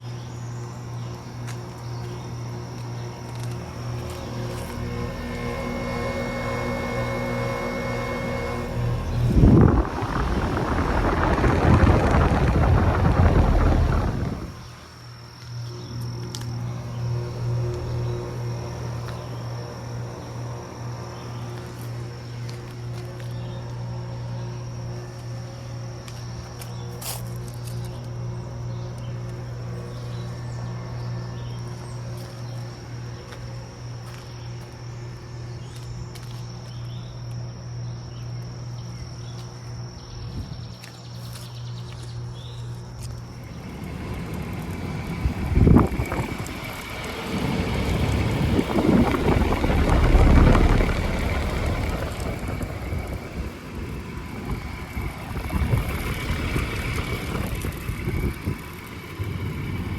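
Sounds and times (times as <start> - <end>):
low compressor hum: 0.0 - 59.9
rushing fan: 0.0 - 59.9
thin steady whine: 0.0 - 59.9.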